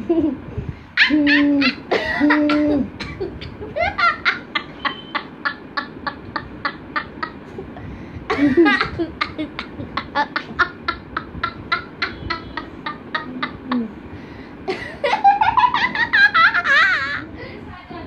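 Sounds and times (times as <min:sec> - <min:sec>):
children laughing: 0:00.0 - 0:17.5.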